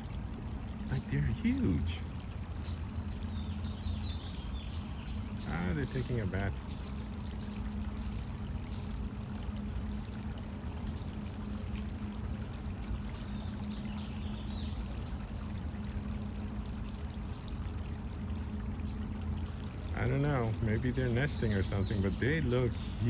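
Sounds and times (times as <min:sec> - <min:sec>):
low steady hum: 0:00.0 - 0:23.0
running water: 0:00.0 - 0:23.0.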